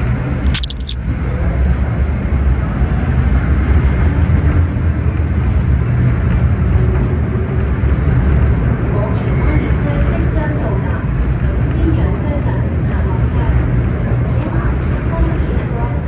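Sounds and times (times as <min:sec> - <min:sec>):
train wheels rumbling on rails: 0:01.1 - 0:16.0.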